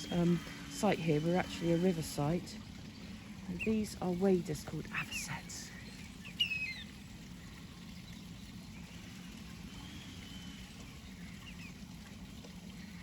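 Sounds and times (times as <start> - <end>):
low background hum: 0.0 - 13.0
wading bird piping call: 0.0 - 13.0.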